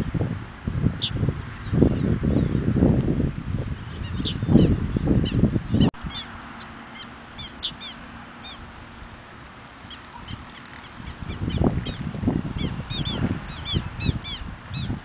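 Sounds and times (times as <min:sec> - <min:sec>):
wind rumble on microphone: 0:00.0 - 0:15.0
birds chipping: 0:00.9 - 0:15.0.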